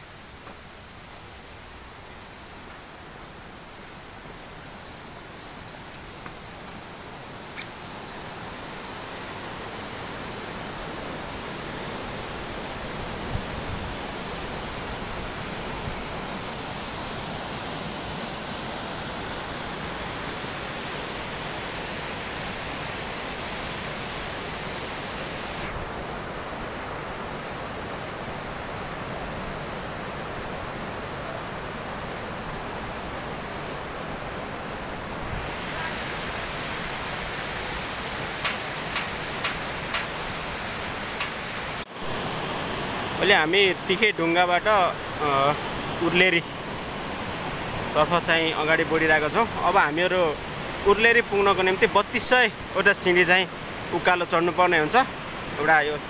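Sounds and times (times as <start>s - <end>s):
mountain stream and waterfall rushing: 0.0s - 56.0s.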